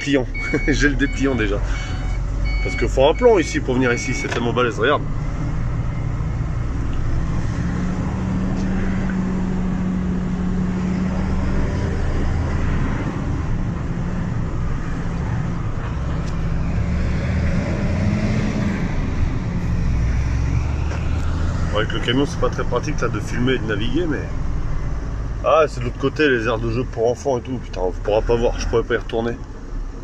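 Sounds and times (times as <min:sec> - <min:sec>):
road noise: 0:00.0 - 0:30.0
truck engine drone: 0:00.0 - 0:30.0.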